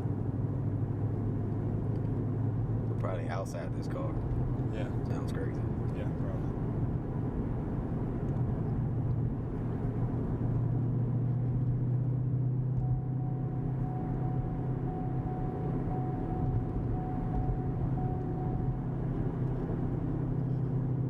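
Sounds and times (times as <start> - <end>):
car exhaust drone: 0.0 - 21.0
road noise: 0.0 - 21.0.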